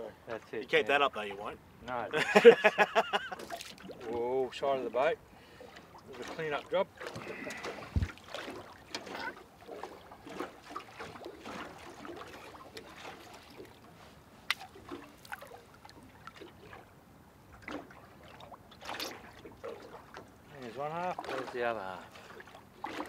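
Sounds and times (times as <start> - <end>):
water lapping: 0.3 - 23.0
water trickling and dripping: 3.1 - 23.0.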